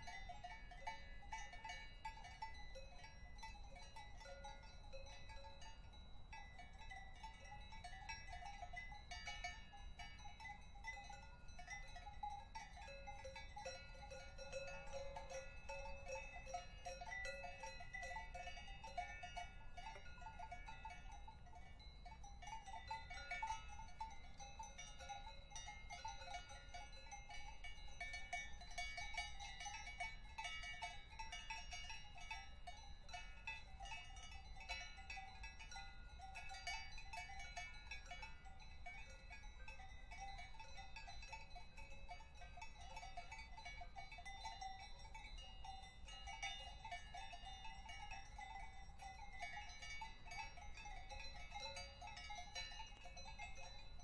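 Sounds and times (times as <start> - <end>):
cowbells clanking: 0.0 - 54.0.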